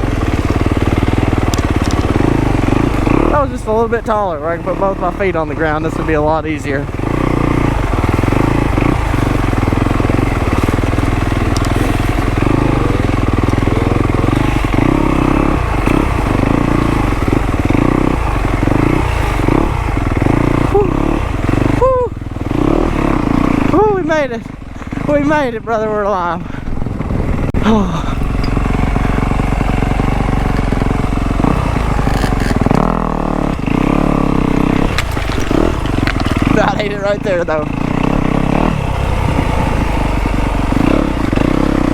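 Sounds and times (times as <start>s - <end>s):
dirt bike engine at low revs: 0.0s - 41.9s.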